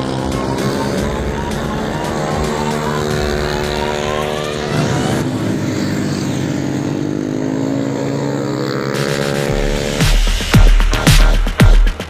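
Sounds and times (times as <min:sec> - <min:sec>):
motorbike engines revving: 0:00.0 - 0:12.0.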